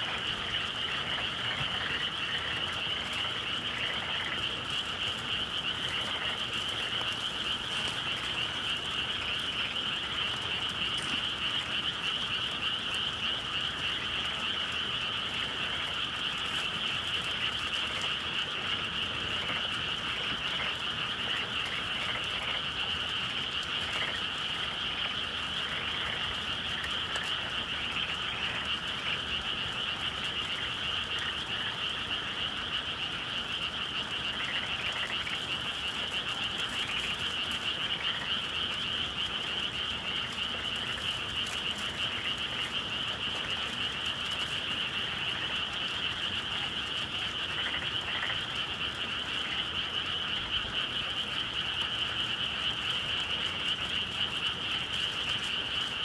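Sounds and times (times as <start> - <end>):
chorus of frogs calling: 0.0 - 56.0.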